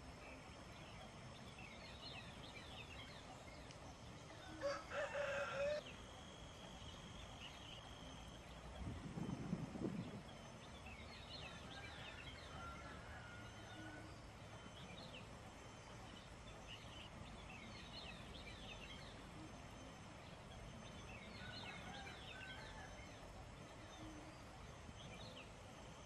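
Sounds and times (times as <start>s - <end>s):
small birds twittering: 0.0s - 26.0s.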